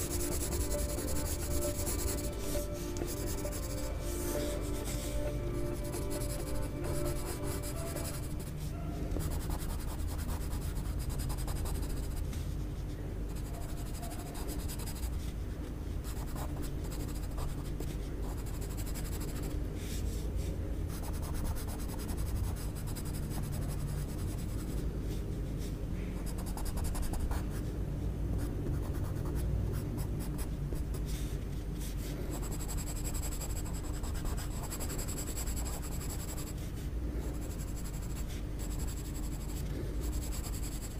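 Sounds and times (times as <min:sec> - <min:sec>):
pencil scratching on paper: 0:00.0 - 0:12.2, 0:13.3 - 0:15.3, 0:16.0 - 0:19.5, 0:20.9 - 0:24.8, 0:26.2 - 0:27.6, 0:28.4 - 0:31.2, 0:32.0 - 0:40.9.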